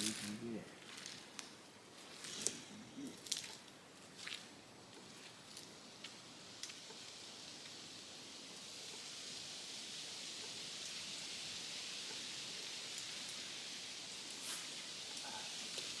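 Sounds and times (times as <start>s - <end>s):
wind rustling tree leaves: 0.0s - 16.0s.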